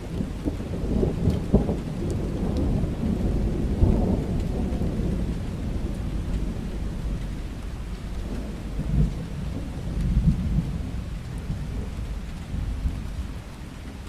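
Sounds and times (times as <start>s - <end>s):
rain falling: 0.0s - 14.0s
thunder rumbling: 0.0s - 14.0s.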